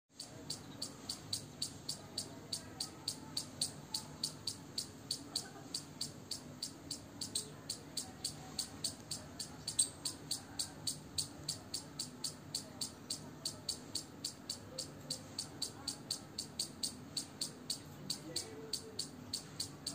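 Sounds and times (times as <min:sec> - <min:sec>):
squirrel chirping: 0:00.1 - 0:19.9.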